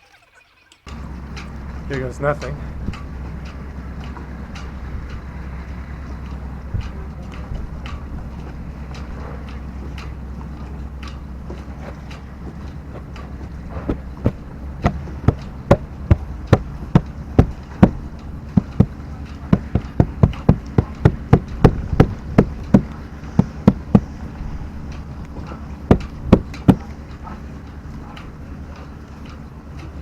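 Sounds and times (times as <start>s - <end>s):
steady low hum: 0.8s - 30.0s.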